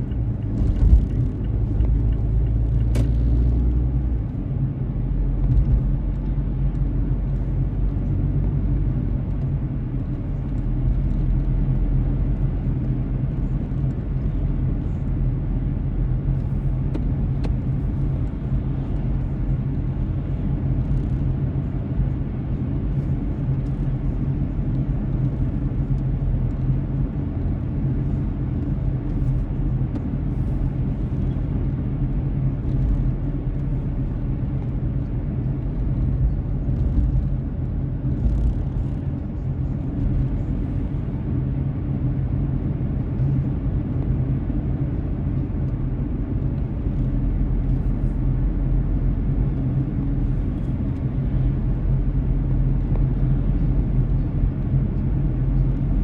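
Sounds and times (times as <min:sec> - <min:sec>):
car tyre and engine rumble: 0:00.0 - 0:56.0.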